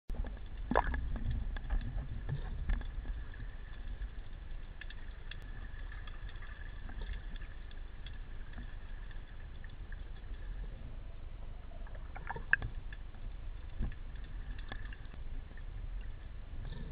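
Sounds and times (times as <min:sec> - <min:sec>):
muffled underwater rumble: 0:00.1 - 0:16.9.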